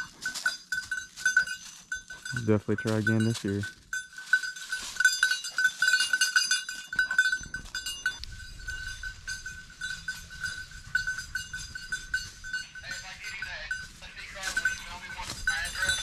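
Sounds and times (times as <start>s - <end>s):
dog collar bell jingling: 0.0s - 16.0s.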